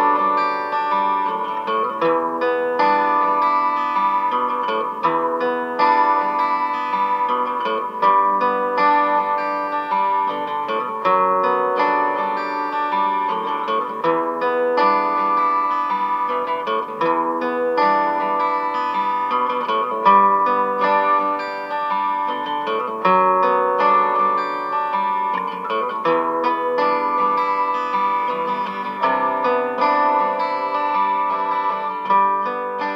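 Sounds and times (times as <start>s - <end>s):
acoustic guitar ballad: 0.0s - 32.9s.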